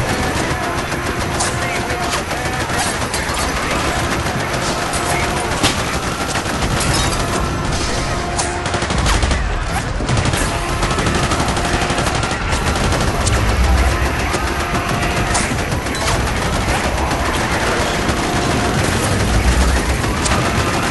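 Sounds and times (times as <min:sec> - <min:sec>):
automatic gunfire bursts: 0:00.0 - 0:20.9
gunfire: 0:00.0 - 0:20.9.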